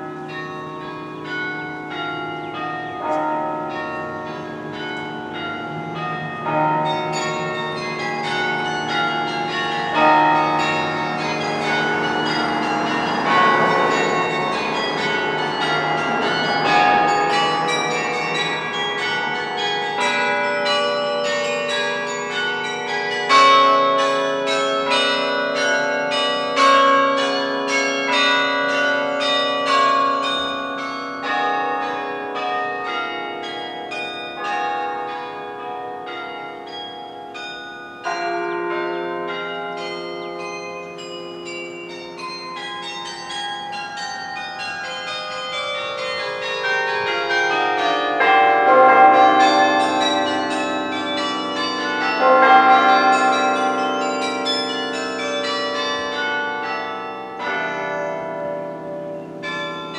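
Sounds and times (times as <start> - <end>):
carillon bells playing: 0.0 - 59.9
low bells ringing long: 0.0 - 59.9.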